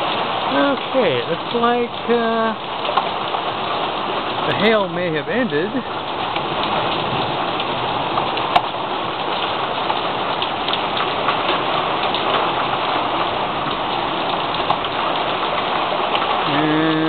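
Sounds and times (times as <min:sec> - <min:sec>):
rain on a wooden deck: 0:00.0 - 0:17.0.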